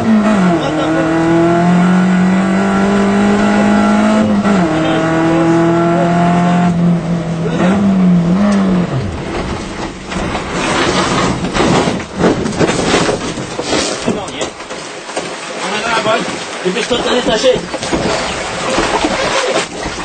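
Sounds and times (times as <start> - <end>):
car rushing and knocking off road: 0.0 - 20.0
rally car engine: 0.0 - 20.0.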